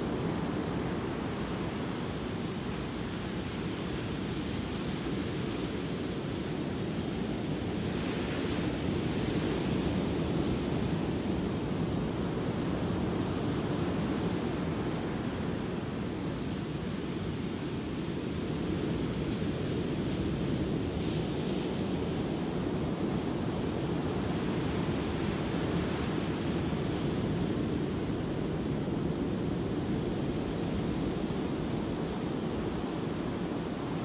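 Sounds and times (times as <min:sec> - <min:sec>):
ocean surf breaking on beach: 0:00.0 - 0:34.0.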